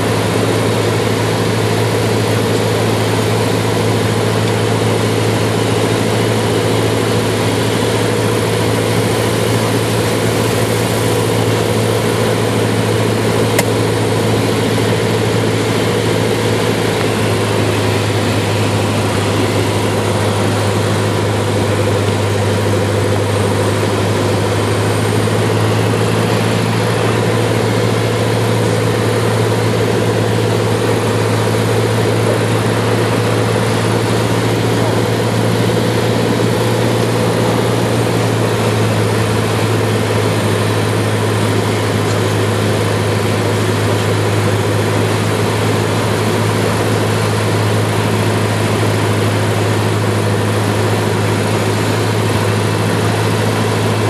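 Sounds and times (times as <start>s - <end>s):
plane engine and propeller drone: 0.0s - 54.0s.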